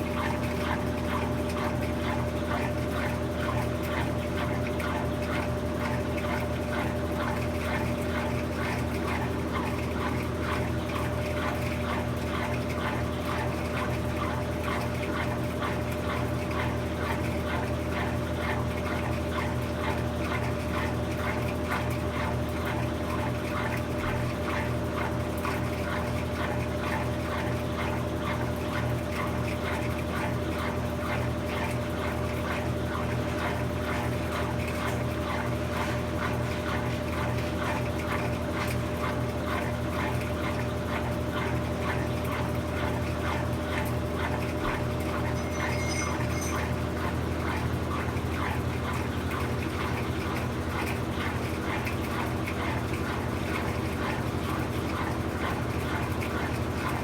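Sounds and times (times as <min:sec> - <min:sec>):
washing machine churning: 0:00.0 - 0:57.0
washing machine motor hum: 0:00.0 - 0:57.0.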